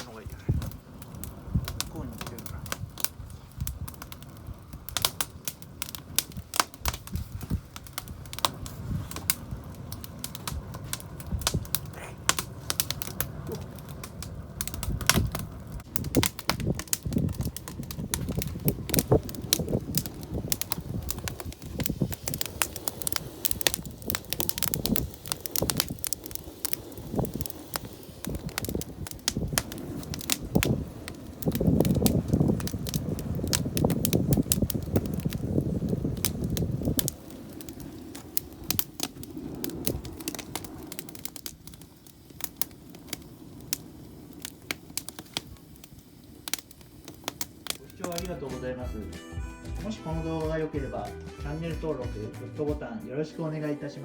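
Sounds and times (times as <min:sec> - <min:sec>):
low rumble of burning: 0:00.0 - 0:48.8
campfire crackling and popping: 0:00.0 - 0:54.0.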